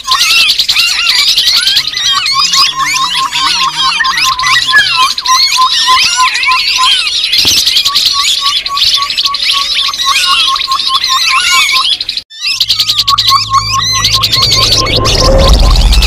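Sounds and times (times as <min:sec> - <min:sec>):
babbler birds chattering: 0:00.0 - 0:16.0.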